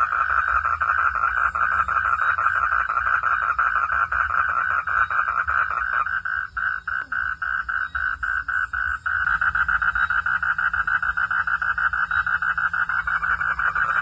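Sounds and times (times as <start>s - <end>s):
frogs calling in a pulsing chorus: 0.0s - 14.0s.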